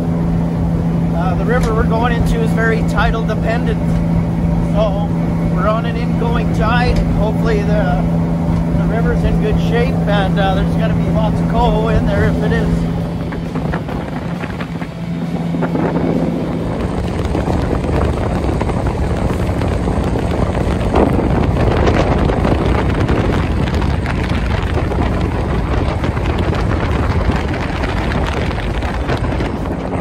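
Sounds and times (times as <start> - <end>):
jet boat engine and water jet: 0.0 - 30.0
wind noise on microphone: 0.0 - 30.0.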